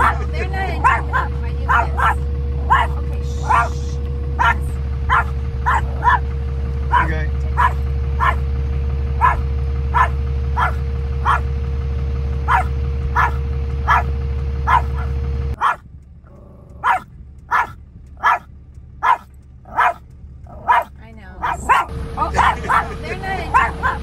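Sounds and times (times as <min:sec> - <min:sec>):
small dog yapping: 0:00.0 - 0:03.8, 0:04.4 - 0:06.3, 0:06.9 - 0:08.4, 0:09.2 - 0:11.5, 0:12.5 - 0:15.8, 0:16.8 - 0:22.9, 0:23.5 - 0:24.0
vehicle engine hum: 0:00.0 - 0:24.0.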